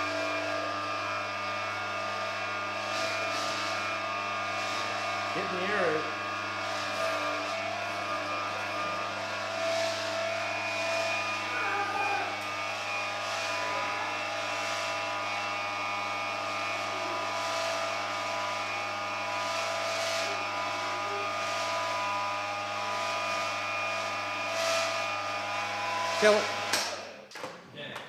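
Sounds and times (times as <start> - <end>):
machine whine: 0.0 - 26.7.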